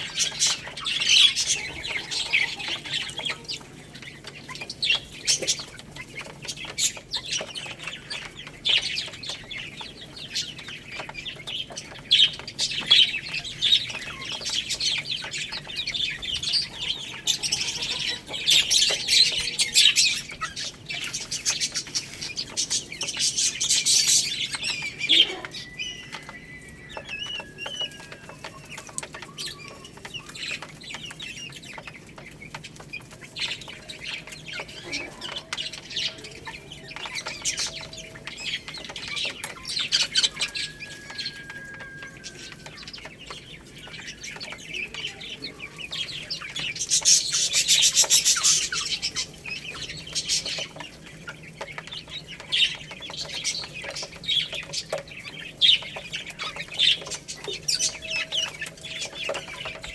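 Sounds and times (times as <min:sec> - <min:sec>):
baby chicks chirping: 0:00.0 - 0:59.9
chicks pecking and scratching: 0:00.0 - 0:59.9.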